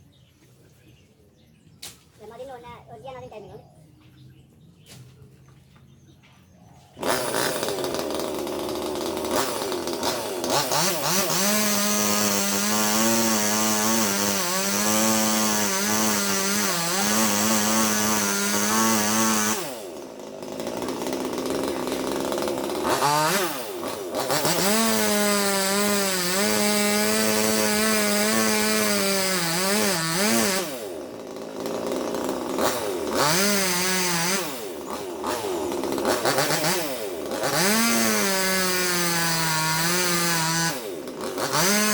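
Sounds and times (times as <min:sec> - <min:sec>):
chainsaw cutting wood: 0:07.0 - 0:41.9.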